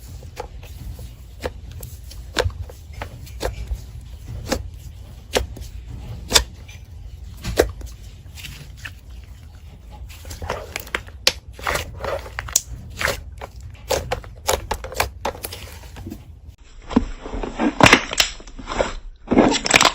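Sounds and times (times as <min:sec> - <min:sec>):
low squishing rumble: 0:00.0 - 0:19.9.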